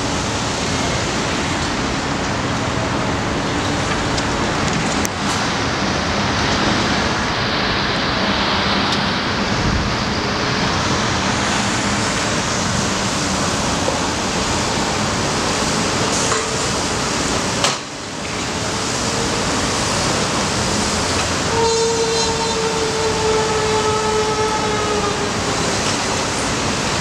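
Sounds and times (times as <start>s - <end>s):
city traffic: 0.0s - 27.0s.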